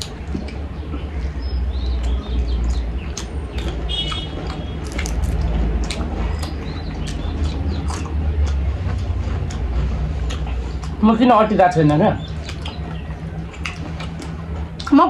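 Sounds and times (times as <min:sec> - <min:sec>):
chewing and lip smacks: 0:00.0 - 0:15.0
steady low hum: 0:00.0 - 0:15.0.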